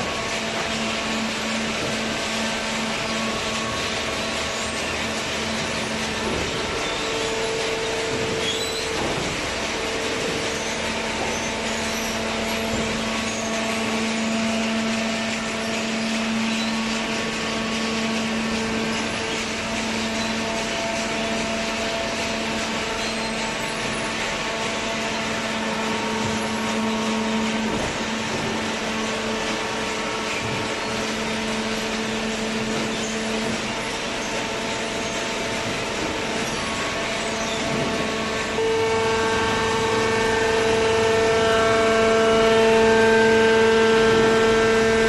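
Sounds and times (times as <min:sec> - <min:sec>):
baler pump and motor hum: 0:00.0 - 0:45.0
machine noise: 0:00.0 - 0:45.0.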